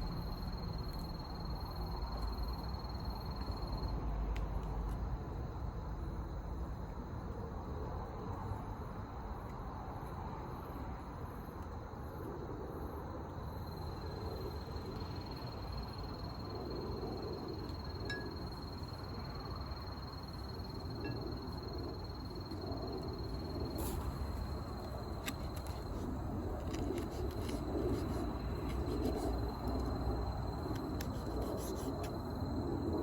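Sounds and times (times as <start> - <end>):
outdoor background noise: 0.0 - 33.0.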